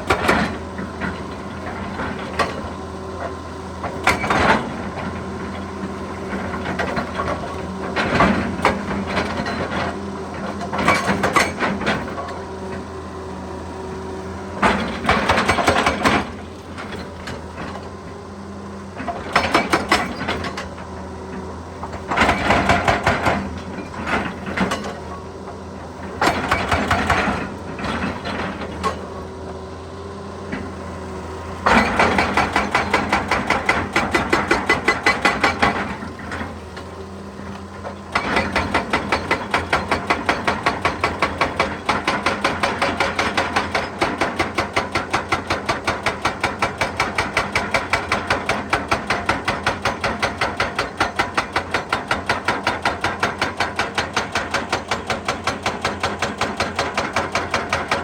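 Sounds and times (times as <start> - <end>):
excavator engine hum: 0.0 - 58.0
hydraulic breaker hammering rock: 0.0 - 58.0.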